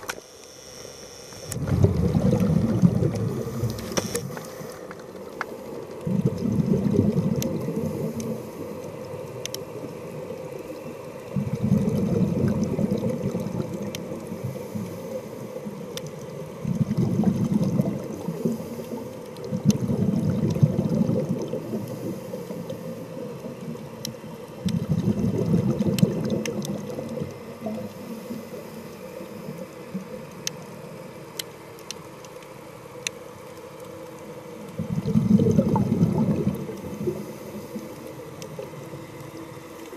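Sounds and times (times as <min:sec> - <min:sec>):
underwater breath bubbles: 0:01.5 - 0:30.5, 0:34.7 - 0:39.6
faint clicks: 0:03.0 - 0:06.2, 0:06.9 - 0:11.9, 0:12.5 - 0:20.5, 0:21.7 - 0:34.8, 0:35.6 - 0:39.9.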